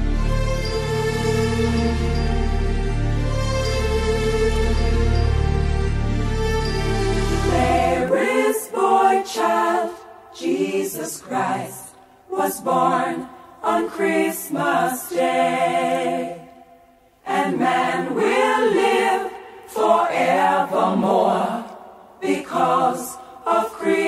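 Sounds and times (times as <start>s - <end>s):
voices singing a christmas song: 0.6s - 24.0s.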